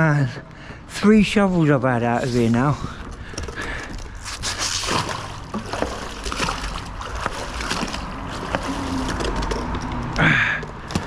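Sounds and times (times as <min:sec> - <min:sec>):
water splashing and trickling: 0:02.0 - 0:11.0.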